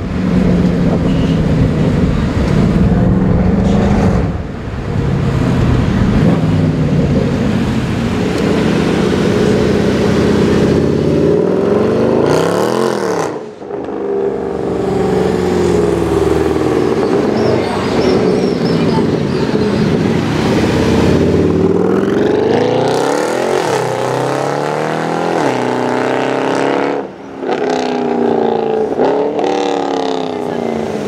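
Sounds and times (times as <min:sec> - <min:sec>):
loud car exhaust accelerating: 0:00.0 - 0:31.0.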